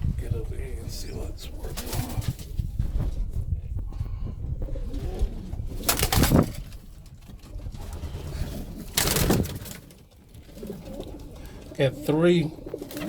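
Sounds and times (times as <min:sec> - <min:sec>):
pigeons cooing: 0:00.8 - 0:13.0.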